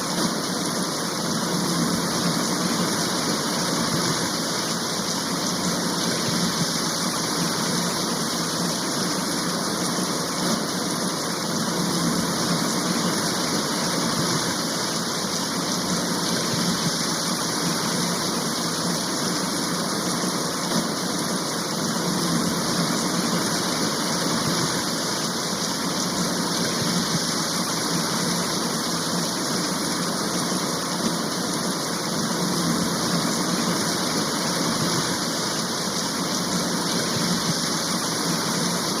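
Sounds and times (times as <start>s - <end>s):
steady rain downpour: 0.0s - 39.0s.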